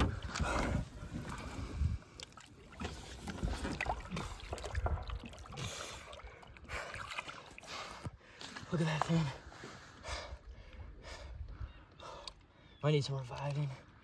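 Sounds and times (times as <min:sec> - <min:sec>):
water sloshing against boat: 0:00.0 - 0:12.6.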